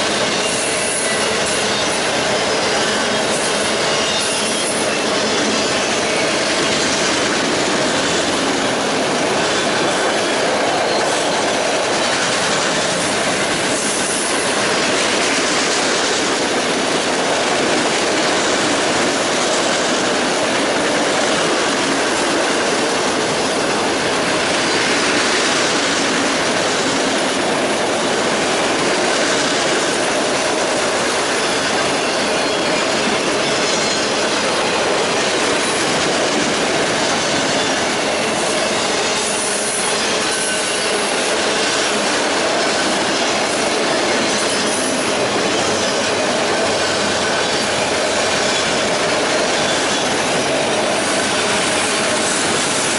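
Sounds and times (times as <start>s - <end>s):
freight train rolling past: 0.0s - 52.9s
steel wheels on rail: 0.0s - 52.9s.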